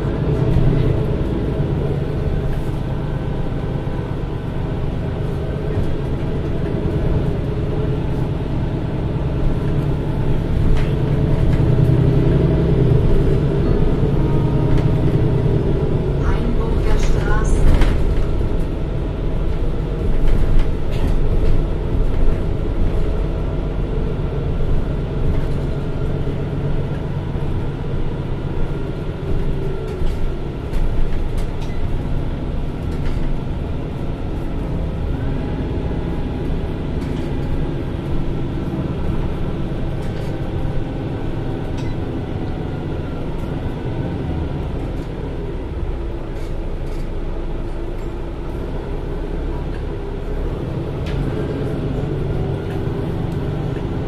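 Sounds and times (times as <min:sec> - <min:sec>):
bus diesel engine hum: 0:00.0 - 0:54.0.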